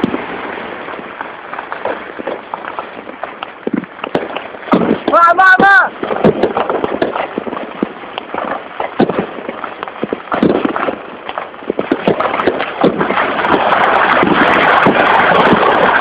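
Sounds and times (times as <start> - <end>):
firecrackers crackling: 0.0 - 16.0
fireworks bangs and pops: 0.0 - 16.0.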